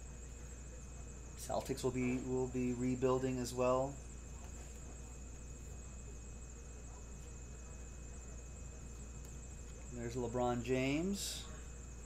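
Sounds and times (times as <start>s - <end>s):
high-pitched whine: 0.0s - 12.0s
low electrical hum: 0.0s - 12.0s.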